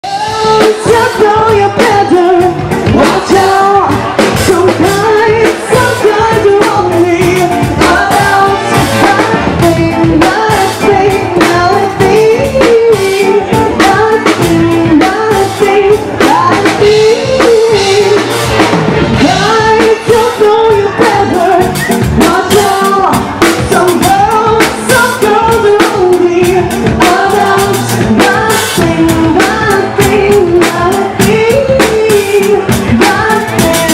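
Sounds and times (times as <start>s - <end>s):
drum kit: 0.0s - 33.9s
guitar: 0.0s - 33.9s
person singing: 0.0s - 33.9s.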